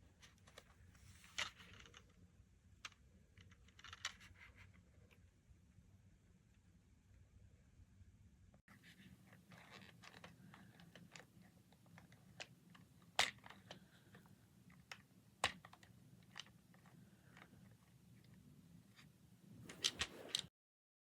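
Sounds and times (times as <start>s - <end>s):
faint handling clicks and crackles: 0.1s - 5.2s, 8.7s - 20.5s.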